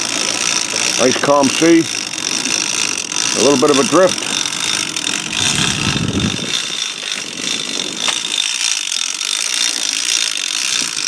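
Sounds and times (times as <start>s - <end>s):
fishing reel clicker ratcheting: 0.4s - 11.0s.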